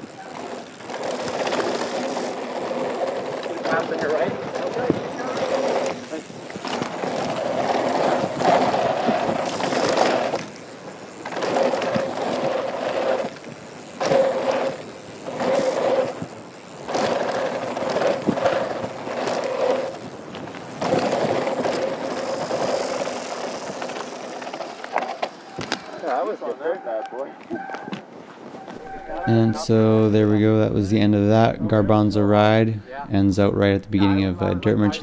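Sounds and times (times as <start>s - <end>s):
bike tyres crunching over dirt: 0.0s - 32.6s
bike rattling: 0.0s - 35.0s.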